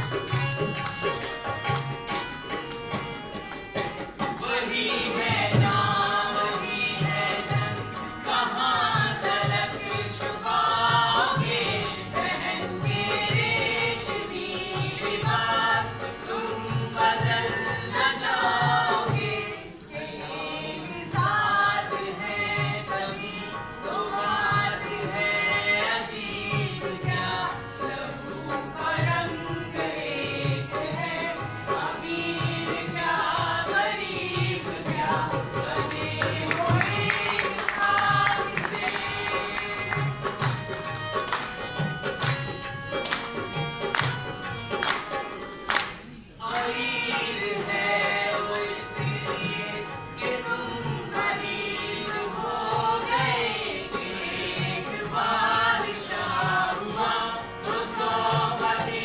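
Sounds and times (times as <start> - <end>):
harmonium: 0.0 - 59.0
women singing in unison: 4.3 - 40.7, 46.4 - 59.0.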